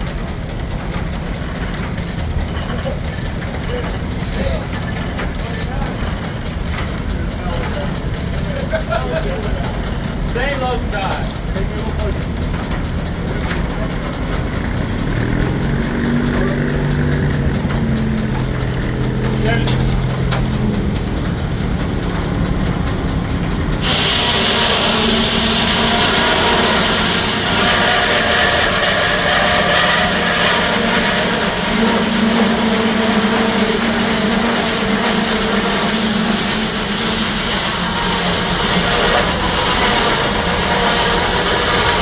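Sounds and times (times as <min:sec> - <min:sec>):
low hum of sawmill drive: 0:00.0 - 0:42.0
circular saw blade whining: 0:03.0 - 0:42.0.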